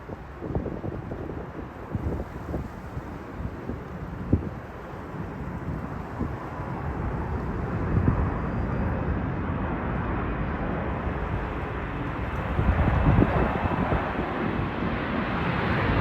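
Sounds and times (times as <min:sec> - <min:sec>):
jet engine on approach: 0:00.0 - 0:16.0
wind buffeting microphone: 0:00.0 - 0:16.0.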